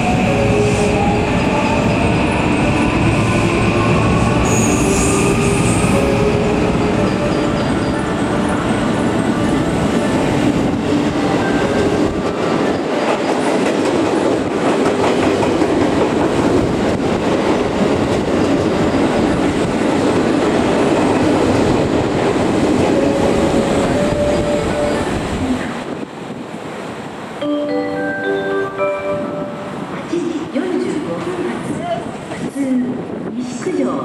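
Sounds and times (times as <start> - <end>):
train wheels rumbling on rails: 0.0 - 27.4.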